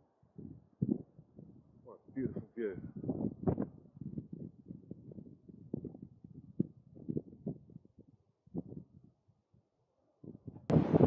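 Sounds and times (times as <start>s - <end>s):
wind buffeting microphone: 0.4s - 9.3s, 10.2s - 11.0s.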